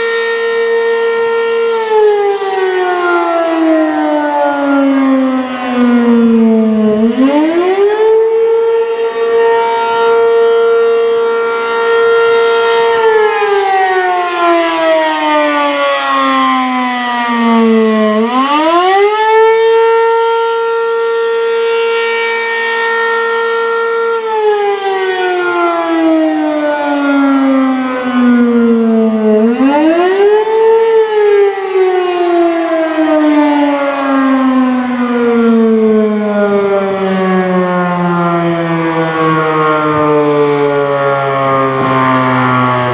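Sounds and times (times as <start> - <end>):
outdoor warning siren wailing: 0.0 - 42.9.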